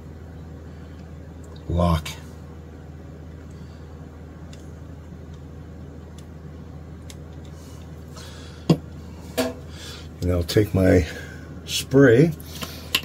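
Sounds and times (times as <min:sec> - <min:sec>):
low room tone hum: 0:00.0 - 0:13.0.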